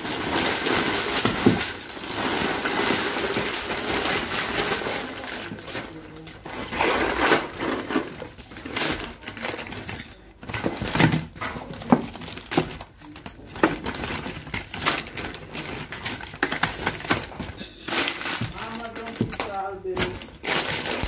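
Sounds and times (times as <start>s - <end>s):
groceries clattering onto floor: 0.0s - 21.0s
plastic bag rustling: 0.0s - 21.0s.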